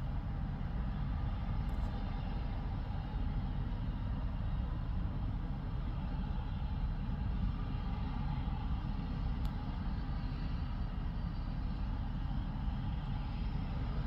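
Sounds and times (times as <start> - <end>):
helicopter engine rumble: 0.0 - 14.0
helicopter engine whine: 0.0 - 14.0.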